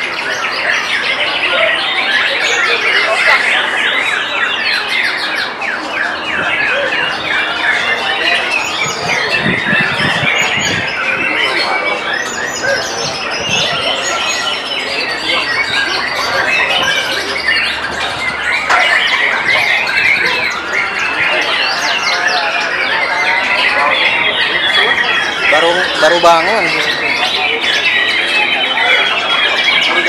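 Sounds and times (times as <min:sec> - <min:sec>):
songbirds whistling and chirping: 0:00.0 - 0:30.0.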